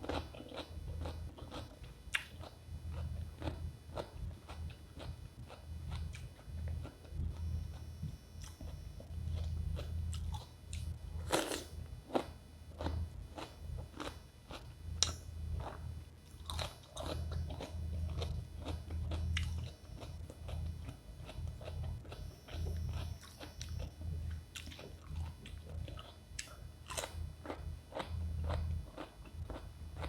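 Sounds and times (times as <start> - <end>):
crunching and chewing cucumber: 0.0 - 7.8, 8.4 - 30.0
steady low hum: 0.0 - 30.0.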